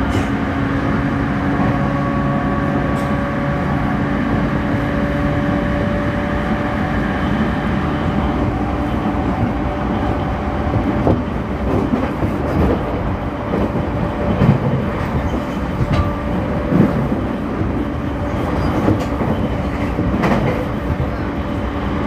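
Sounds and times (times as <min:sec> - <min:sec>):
train wheels rolling: 0:02.8 - 0:21.6.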